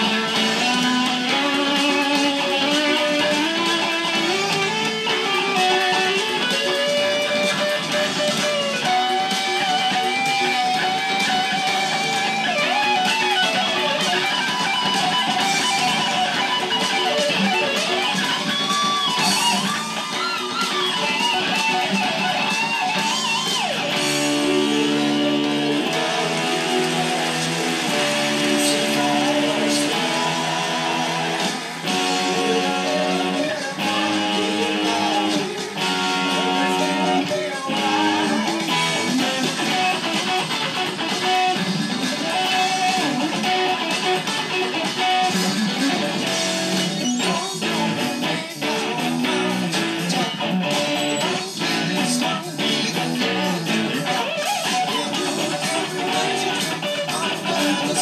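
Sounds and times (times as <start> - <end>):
electric guitar lead line: 0.0 - 58.0
rock band backing: 0.0 - 58.0.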